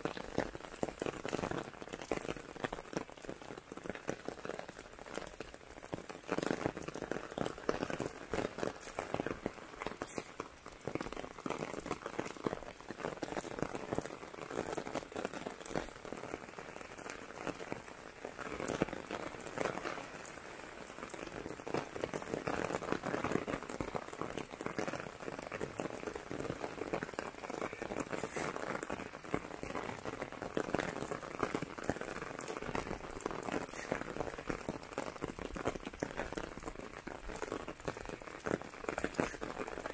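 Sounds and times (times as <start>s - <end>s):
rain drops tapping on umbrella: 0.0s - 39.9s.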